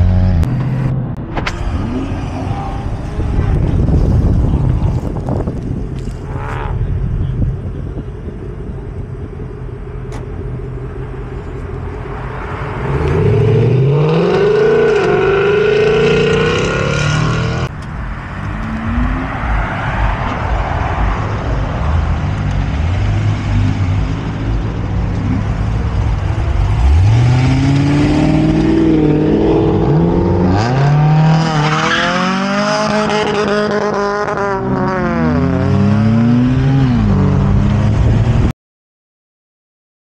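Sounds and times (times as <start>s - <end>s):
car exhaust rumbling and revving: 0.0s - 38.5s.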